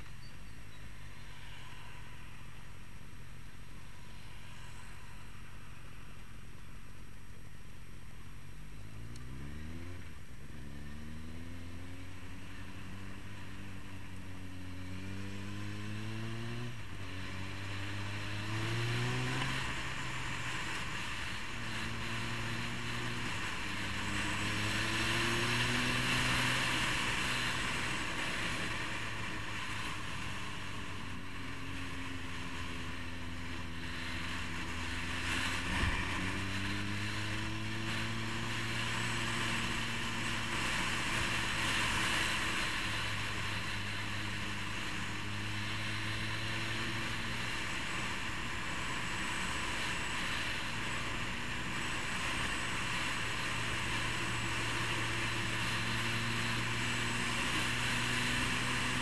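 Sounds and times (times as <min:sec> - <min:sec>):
motorcycle engine accelerating: 0:08.2 - 0:59.0.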